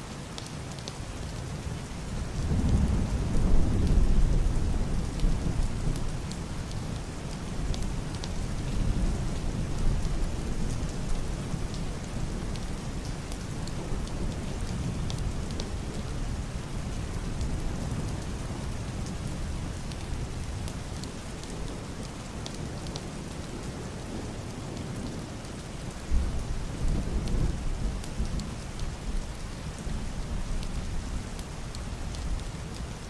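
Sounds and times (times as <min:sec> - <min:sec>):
heavy rain on roof and window: 0:00.0 - 0:33.0
muffled thunder rumble: 0:02.2 - 0:32.7.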